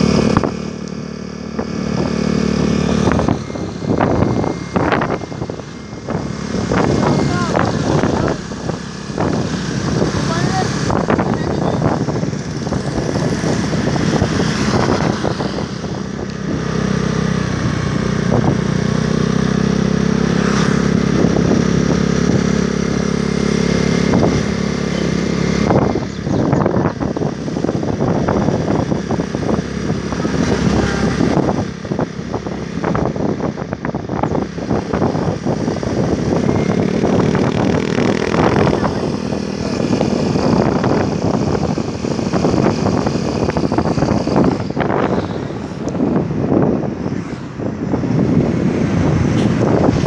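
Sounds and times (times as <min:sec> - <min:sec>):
low engine drone: 0:00.0 - 0:50.0
traffic noise: 0:00.0 - 0:50.0.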